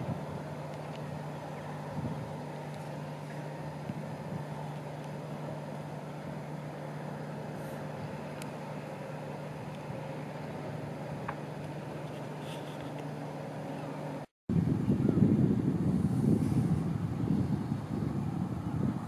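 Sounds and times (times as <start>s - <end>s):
distant engine hum: 0.0s - 19.0s.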